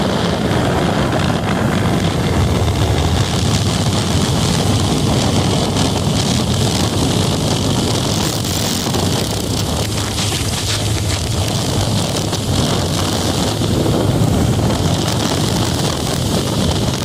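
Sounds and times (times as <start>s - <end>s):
motorcycle engine cruising: 0.0s - 17.0s
wind buffeting microphone: 0.0s - 17.0s.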